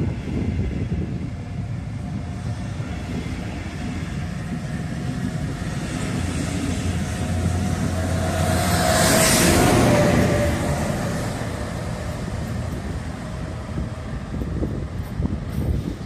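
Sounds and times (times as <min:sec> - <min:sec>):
diesel locomotive engine: 0:00.0 - 0:16.0
train wheels rumbling on rail: 0:00.0 - 0:16.0.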